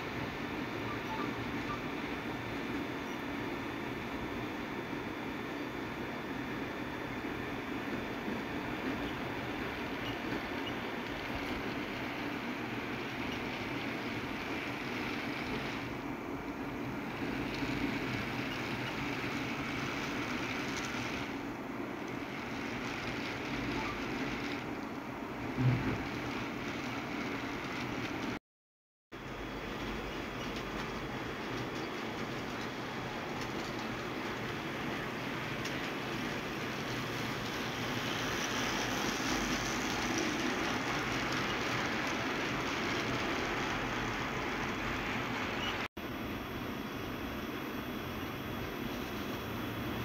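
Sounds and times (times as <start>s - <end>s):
model train humming on track: 0.0s - 28.4s, 29.2s - 45.9s.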